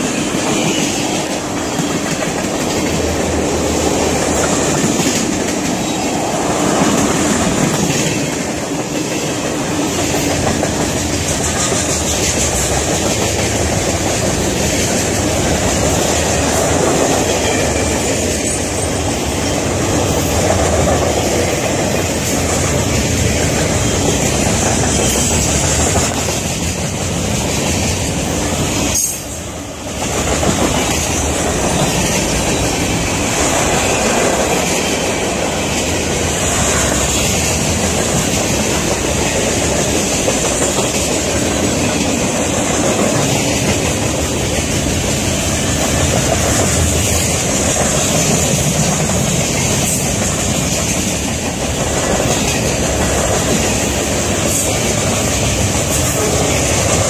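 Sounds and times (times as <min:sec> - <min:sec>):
train wheels rumbling over rails: 0:00.0 - 0:57.0.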